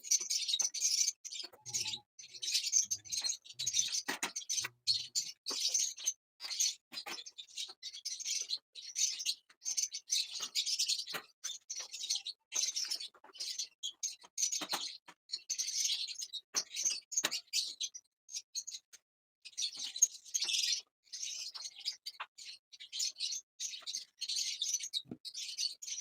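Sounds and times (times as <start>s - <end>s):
lovebirds chirping: 0.0s - 26.0s.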